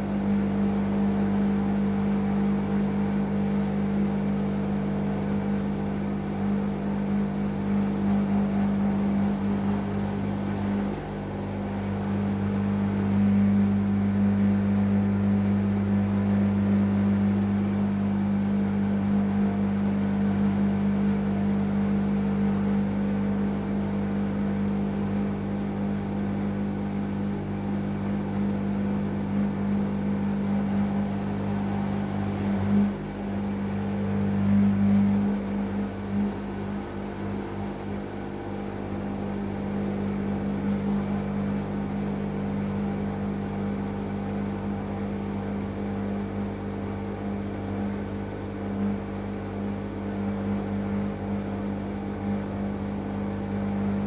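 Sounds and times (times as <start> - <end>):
washing machine drain pump humming: 0.0 - 54.0.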